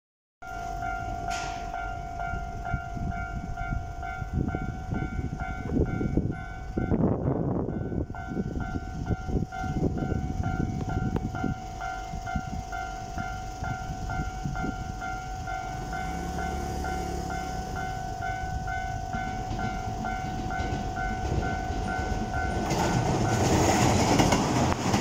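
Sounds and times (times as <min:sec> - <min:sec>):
level crossing warning bell ringing: 0:00.4 - 0:25.0.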